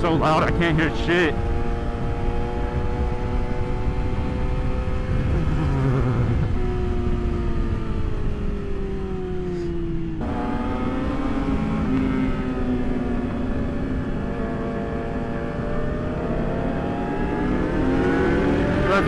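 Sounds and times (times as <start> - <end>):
motorcycle engines running: 0.0 - 19.0
wind and road rush: 0.0 - 19.0.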